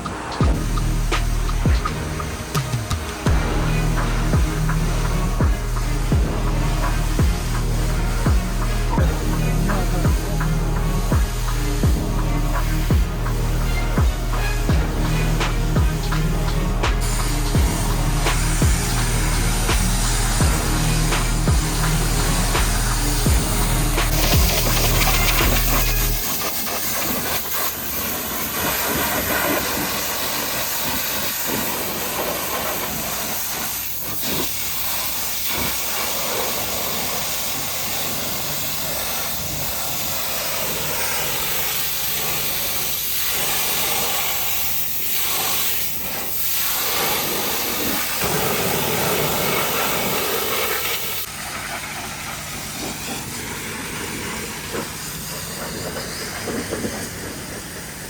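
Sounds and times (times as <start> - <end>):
pressure washer spraying: 0.0 - 58.0.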